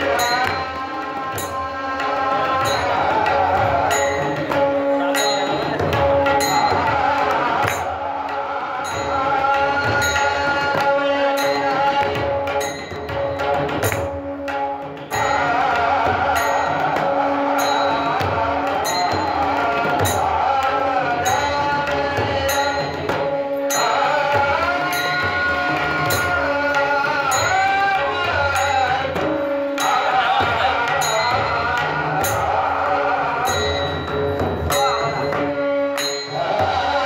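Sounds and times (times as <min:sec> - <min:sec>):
percussion beat: 0:00.0 - 0:37.0
person singing devotional song: 0:00.0 - 0:37.0.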